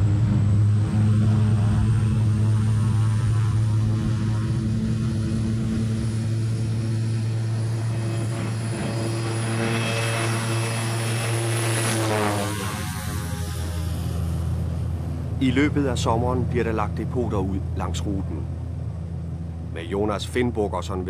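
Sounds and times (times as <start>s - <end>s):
propeller plane taking off: 0.0s - 21.0s.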